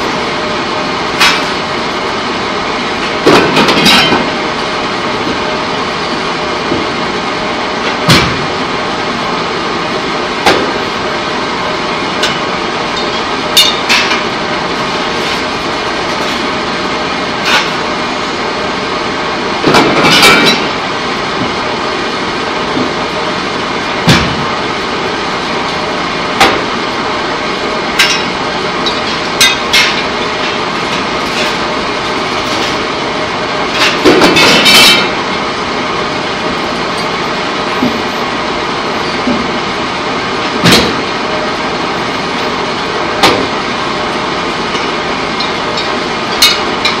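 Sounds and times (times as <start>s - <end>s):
industrial machinery running: 0.0s - 47.0s.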